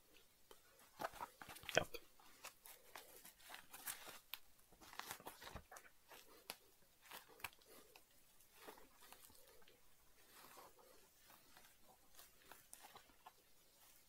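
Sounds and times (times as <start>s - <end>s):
fingers scratching and rustling foam: 2.3s - 14.0s.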